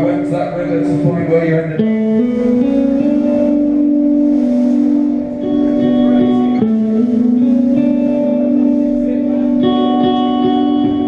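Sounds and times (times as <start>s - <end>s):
ringing guitar chords: 0.0s - 11.0s.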